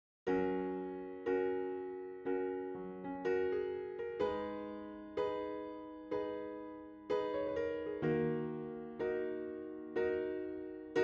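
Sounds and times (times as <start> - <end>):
electric piano chords: 0.3 - 11.0.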